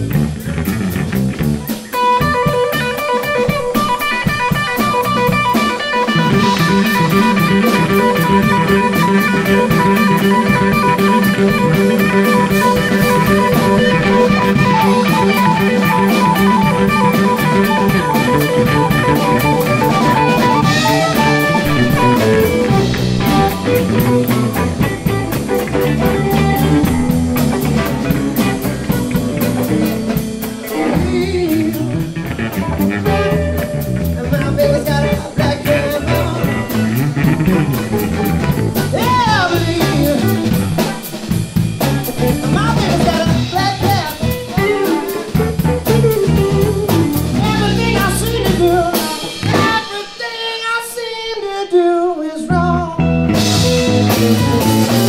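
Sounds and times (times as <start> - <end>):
electric blues band playing: 0.0 - 55.0.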